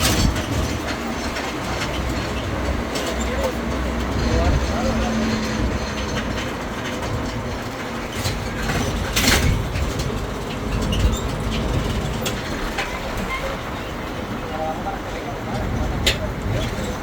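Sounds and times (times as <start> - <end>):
low rumble of engine and carriages: 0.0 - 17.0.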